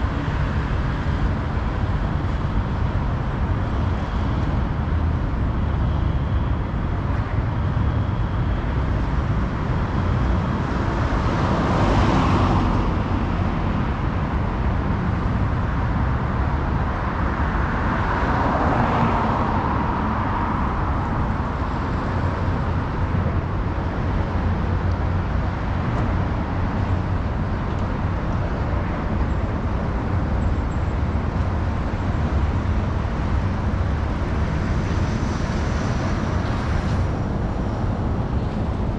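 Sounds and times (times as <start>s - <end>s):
city traffic rumble: 0.0s - 38.9s
vehicles passing: 0.0s - 38.9s.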